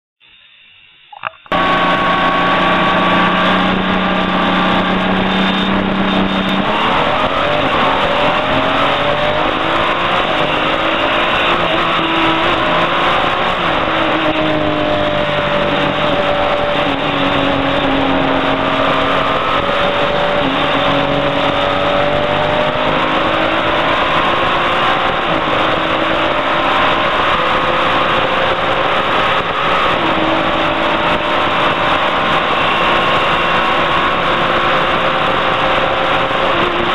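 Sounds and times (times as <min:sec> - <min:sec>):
steady rushing noise: 0:01.1 - 0:36.9
race car engine accelerating: 0:01.5 - 0:36.9.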